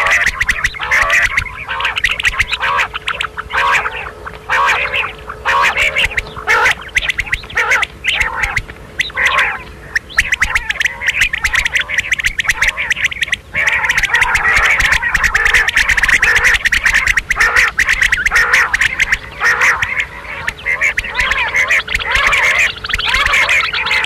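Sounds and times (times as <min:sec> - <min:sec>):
quail calling: 0:00.0 - 0:24.0.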